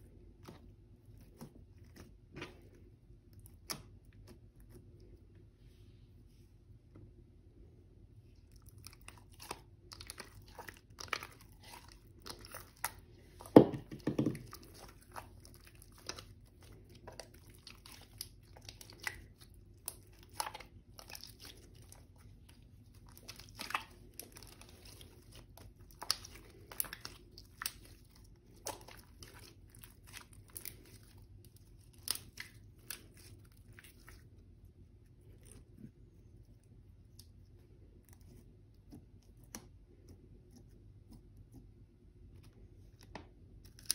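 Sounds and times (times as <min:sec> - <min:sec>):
slime squishing with sticky clicks: 0:00.3 - 0:05.0, 0:08.3 - 0:36.0, 0:36.6 - 0:43.9.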